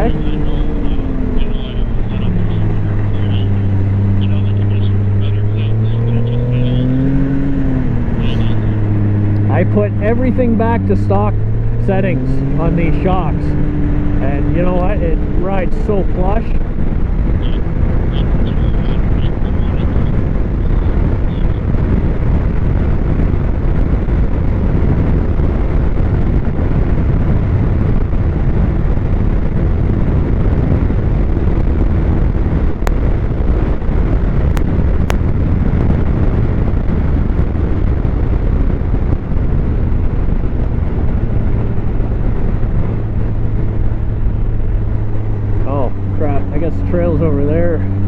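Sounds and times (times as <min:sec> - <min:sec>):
snowmobile engine running: 0:00.0 - 0:48.0
wind rumble on microphone: 0:00.0 - 0:48.0.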